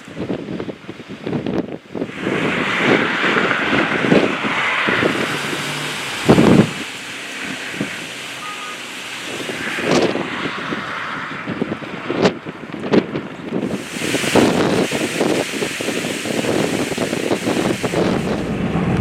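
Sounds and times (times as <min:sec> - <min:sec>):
gusty wind rushing: 0:00.0 - 0:19.0
wind buffeting microphone: 0:00.0 - 0:19.0.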